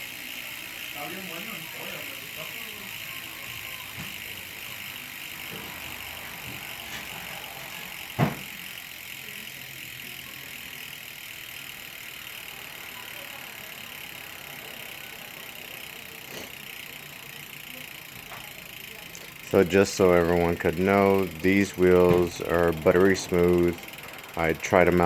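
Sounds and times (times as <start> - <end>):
bicycle hub freewheeling clicks: 0.0 - 25.0.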